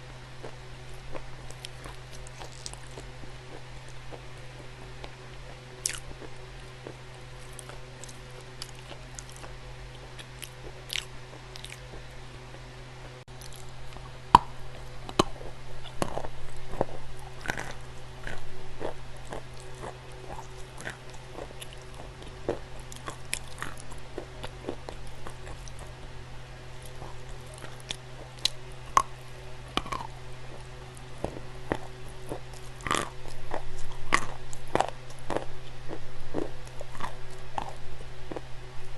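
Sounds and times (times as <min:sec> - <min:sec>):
steady low hum: 0:00.0 - 0:38.9
dry clay being chewed: 0:00.4 - 0:12.6, 0:13.3 - 0:38.9.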